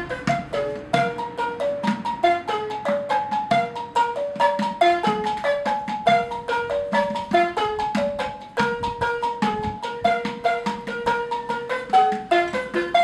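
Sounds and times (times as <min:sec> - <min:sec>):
balafon played with mallets: 0:00.0 - 0:13.0.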